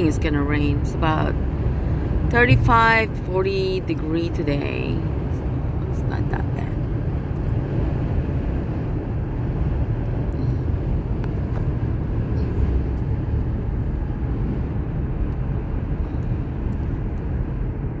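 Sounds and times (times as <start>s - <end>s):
car driving rumble inside cabin: 0.0s - 18.0s.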